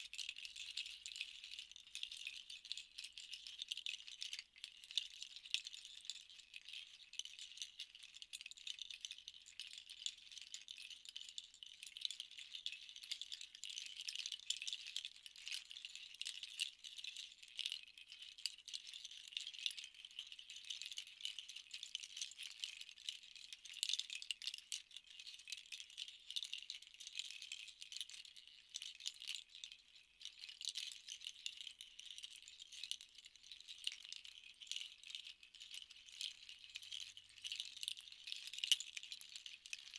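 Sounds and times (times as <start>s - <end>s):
rattles shaken with soft clatter: 0.0s - 39.9s.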